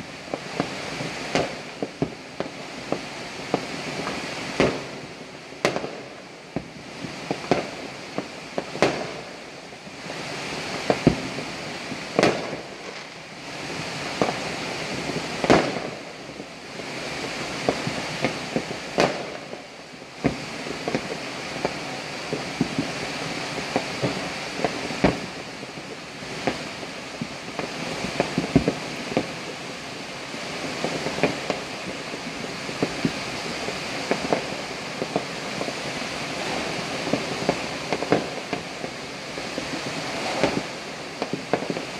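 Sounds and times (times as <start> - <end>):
distant fireworks bangs and pops: 0.0 - 41.9
steady hiss: 0.0 - 41.9.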